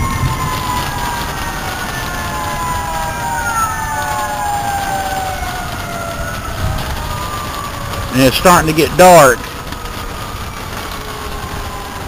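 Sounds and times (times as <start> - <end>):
sirens wailing: 0.0 - 12.0.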